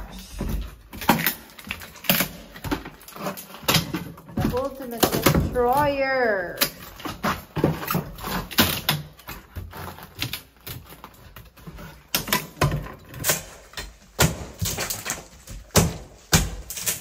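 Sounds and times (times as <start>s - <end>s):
gritty scraping on rubble: 0.0s - 17.0s.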